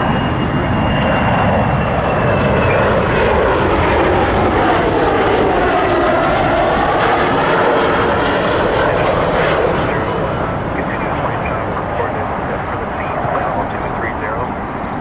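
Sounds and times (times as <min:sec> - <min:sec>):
jet engines passing on landing: 0:00.0 - 0:15.0.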